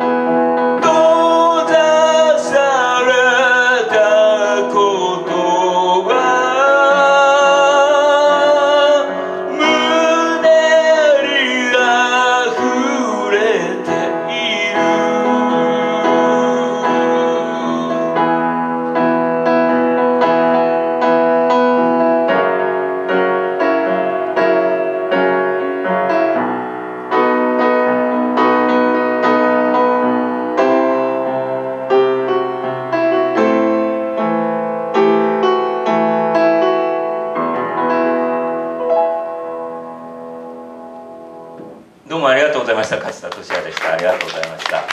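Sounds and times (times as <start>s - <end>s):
solo piano playing chords: 0.0s - 42.1s.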